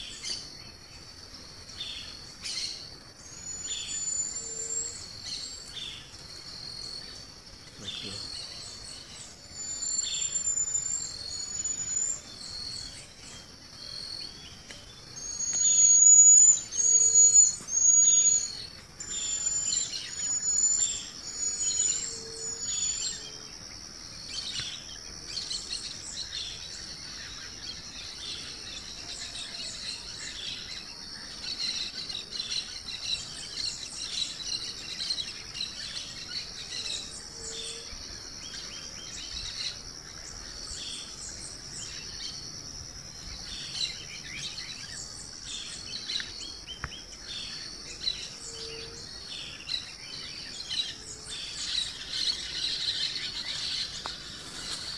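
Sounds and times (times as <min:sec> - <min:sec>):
birds singing: 0:00.0 - 0:54.9
crickets droning: 0:00.0 - 0:54.9.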